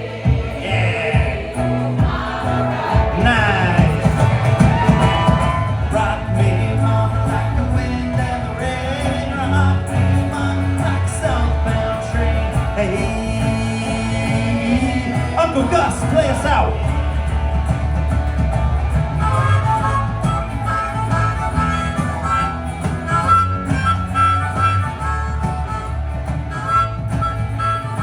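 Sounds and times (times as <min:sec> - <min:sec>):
live band playing: 0:00.0 - 0:28.0
pulsing bass line: 0:00.0 - 0:28.0.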